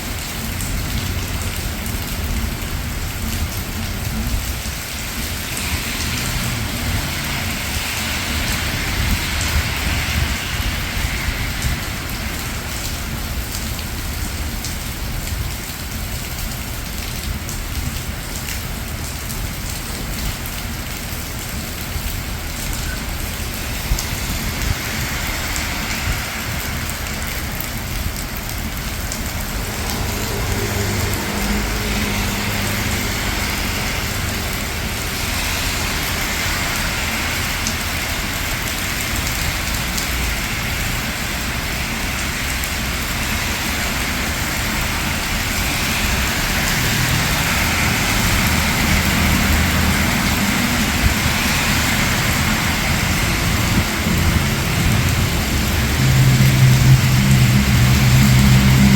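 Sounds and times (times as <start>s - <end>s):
cars passing on wet road: 0.0s - 58.9s
low rumble of traffic: 0.0s - 58.9s
rain falling on streets: 0.0s - 58.9s.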